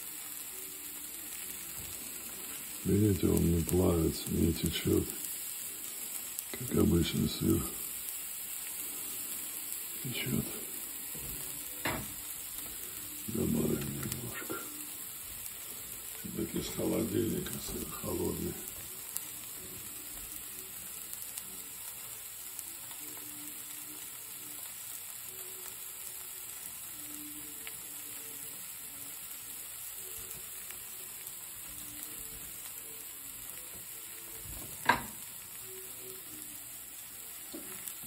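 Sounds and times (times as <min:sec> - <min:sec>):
cheese sizzling in frying pan: 0:00.0 - 0:38.0.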